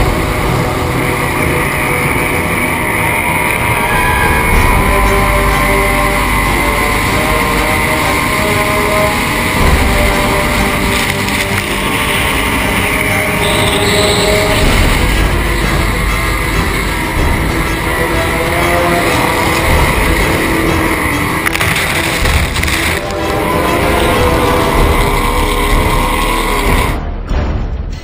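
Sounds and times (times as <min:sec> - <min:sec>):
powerboat engine at high speed: 0:00.0 - 0:27.0
wind and water spray rushing: 0:00.0 - 0:27.0.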